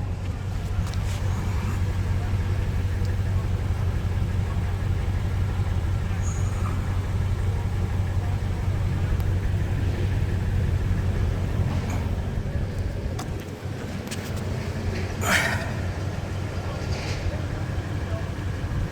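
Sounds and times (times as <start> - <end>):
truck engine idling: 0.0 - 18.9.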